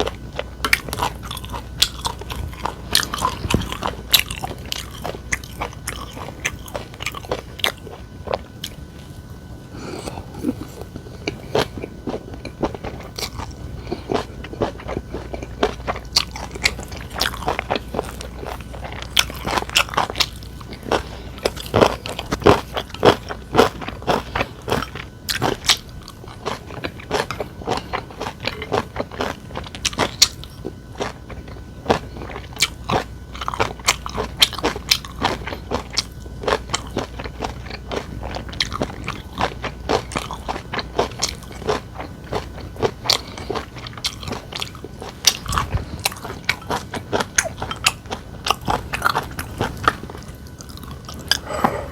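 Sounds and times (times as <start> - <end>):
chewing crunchy food: 0.0 - 51.9.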